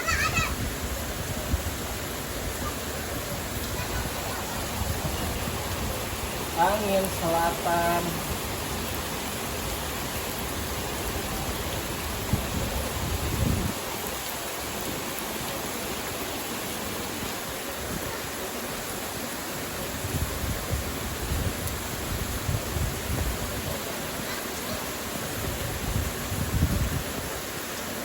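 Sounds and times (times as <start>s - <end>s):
rain: 0.0s - 28.0s
stream and waterfall flowing: 0.0s - 28.0s.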